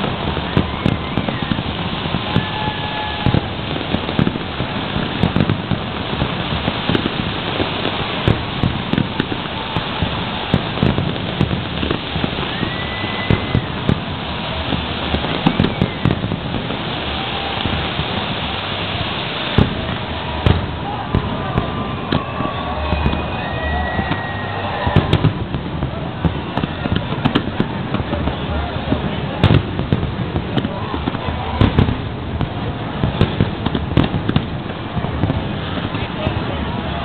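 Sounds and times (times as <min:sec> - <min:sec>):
firework shells booming: 0:00.0 - 0:37.0
fireworks crackling: 0:00.0 - 0:37.0.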